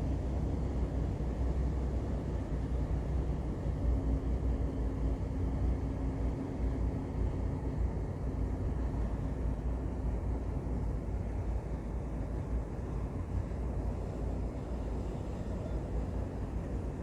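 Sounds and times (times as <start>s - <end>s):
faint steady hum: 0.0s - 17.0s
ship engine low rumble: 0.0s - 17.0s.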